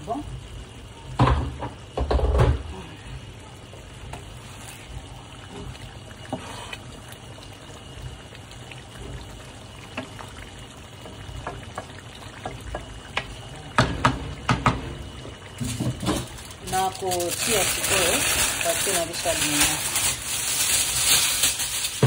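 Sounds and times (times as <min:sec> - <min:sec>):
food sizzling in a pot: 0:03.6 - 0:22.0.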